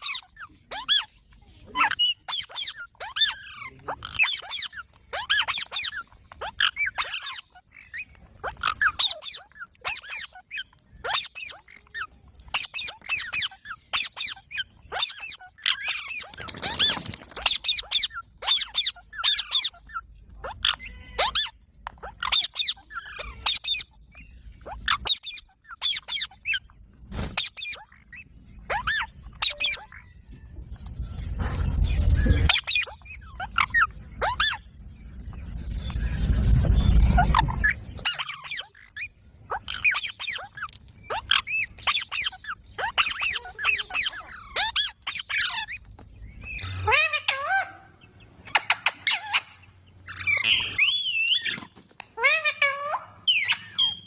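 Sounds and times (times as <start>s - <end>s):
baby parrots squeaky calls: 0.0s - 54.0s.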